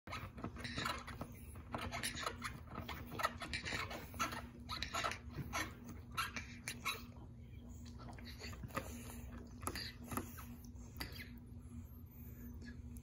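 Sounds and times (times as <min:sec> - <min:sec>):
puppy teeth gnawing plastic: 0:00.1 - 0:07.1, 0:07.8 - 0:11.4.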